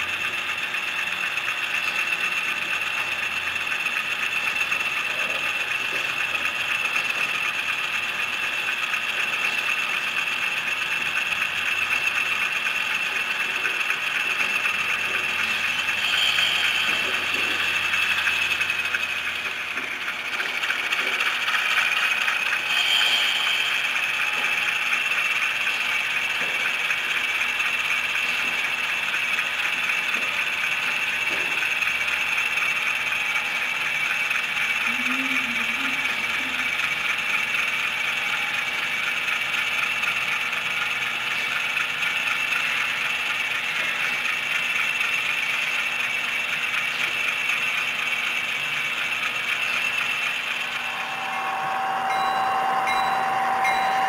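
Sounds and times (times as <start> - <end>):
constant high whine: 0.0 - 36.8, 47.0 - 54.0
model train wheels rattling on rail: 0.0 - 50.8.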